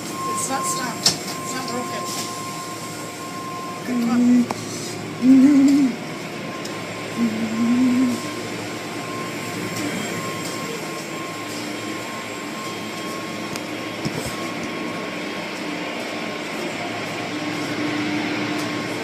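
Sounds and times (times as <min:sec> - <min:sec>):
car wash machinery rushing: 0:00.0 - 0:19.0.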